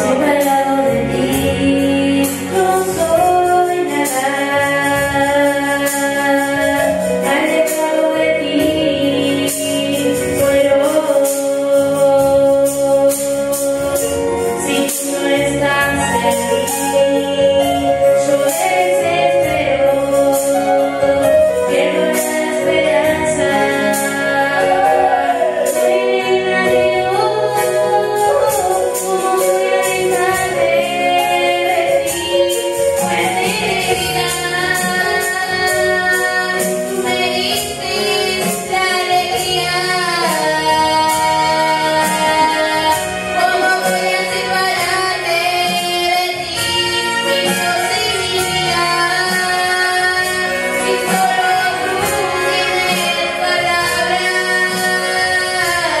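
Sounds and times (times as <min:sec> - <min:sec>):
instrumental accompaniment: 0:00.0 - 0:56.0
woman singing: 0:00.0 - 0:56.0.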